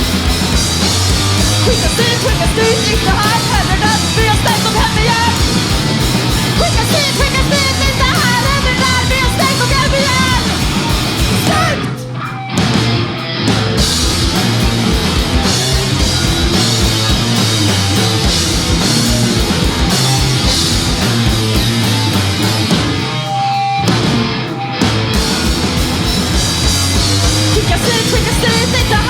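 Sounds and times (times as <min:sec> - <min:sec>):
punk rock band instrumental: 0:00.0 - 0:29.0.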